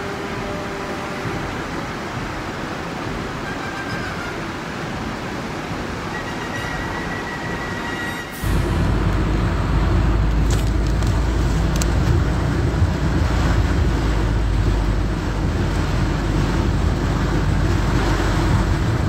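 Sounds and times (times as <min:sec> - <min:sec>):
rain and splashing water: 0:00.0 - 0:19.0.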